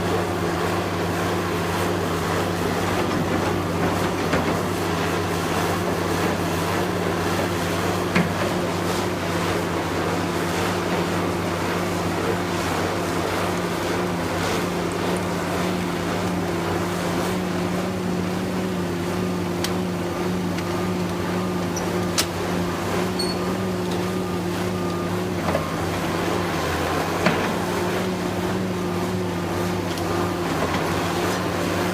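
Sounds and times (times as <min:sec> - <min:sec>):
heavy machinery engine running: 0:00.0 - 0:31.9.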